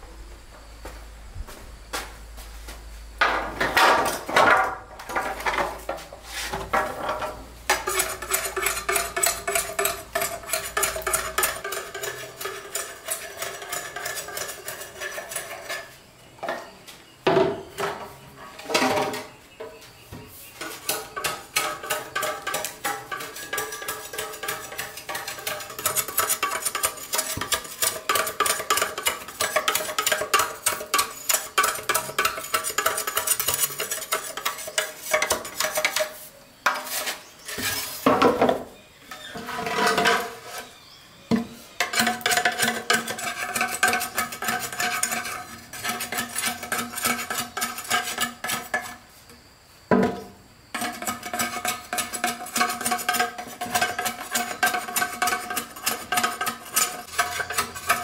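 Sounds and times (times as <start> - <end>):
hand tool clinking and scraping: 3.6 - 16.0, 20.5 - 38.2, 39.1 - 40.9, 41.5 - 49.0, 50.8 - 58.0.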